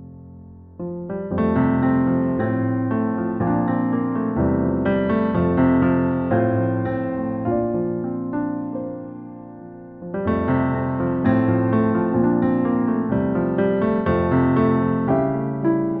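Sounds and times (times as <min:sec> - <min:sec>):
piano playing chords: 0:00.0 - 0:16.0.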